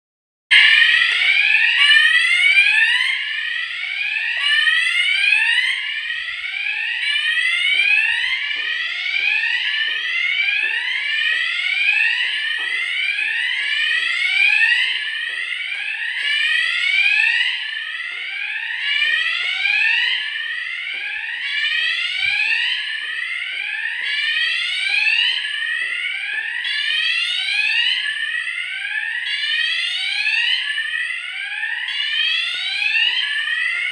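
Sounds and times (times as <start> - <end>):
fire alarm rising sweep tone: 0.5 - 33.9.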